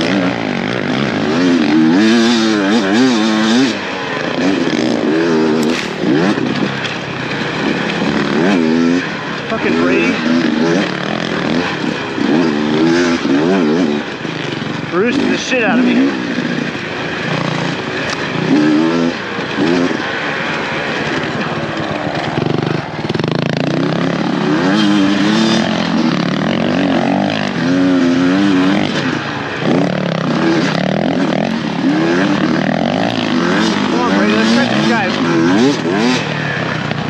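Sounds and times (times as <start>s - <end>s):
constant rushing noise: 0.0s - 37.0s
dirt bike engine revving: 0.0s - 37.0s.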